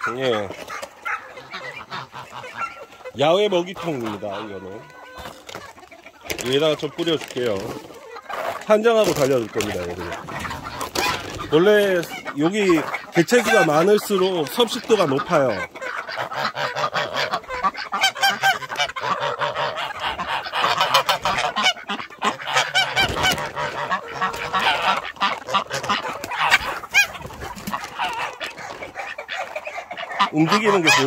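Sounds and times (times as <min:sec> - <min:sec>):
poultry calling loudly: 0:00.0 - 0:31.0.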